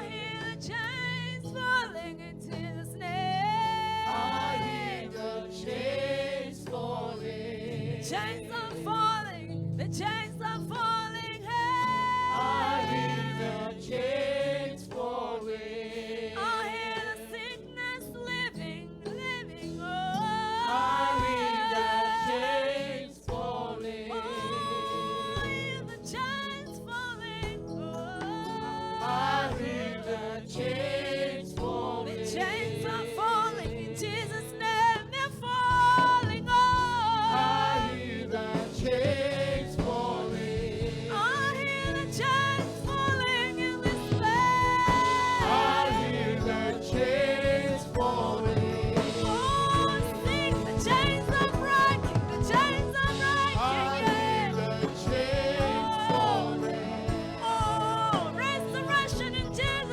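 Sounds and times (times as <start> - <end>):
gospel singing: 0.0 - 59.9
instrumental backing: 0.0 - 59.9.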